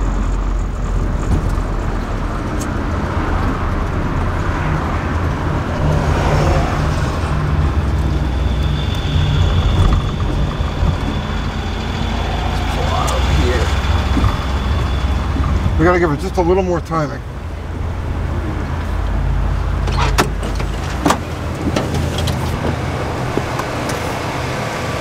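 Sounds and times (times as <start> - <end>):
car engine running: 0.0 - 25.0
road noise: 0.0 - 25.0.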